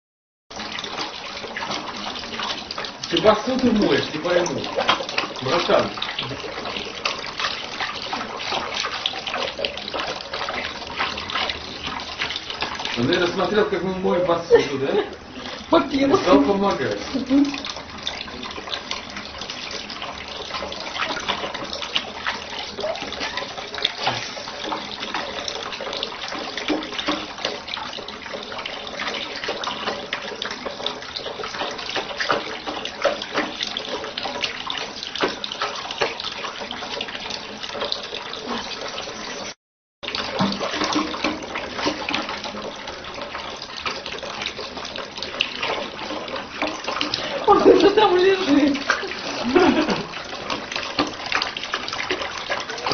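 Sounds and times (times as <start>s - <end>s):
tap water running into sink: 0.5s - 52.9s
splashes on dishes: 0.6s - 39.3s, 40.0s - 52.9s.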